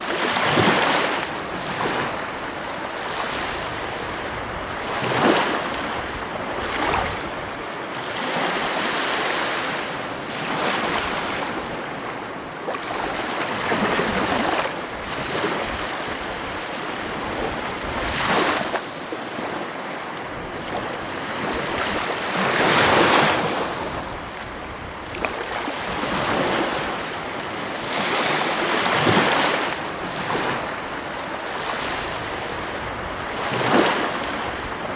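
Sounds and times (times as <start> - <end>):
ocean waves crashing on coast: 0.0 - 34.9.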